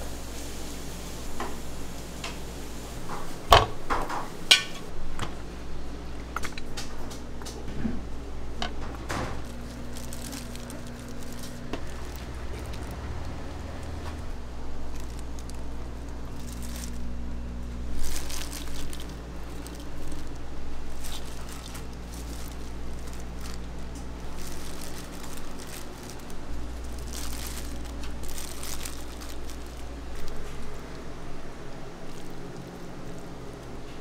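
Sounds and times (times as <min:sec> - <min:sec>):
steady low hum: 0:00.0 - 0:34.0
rustling and crinkling: 0:06.2 - 0:34.0.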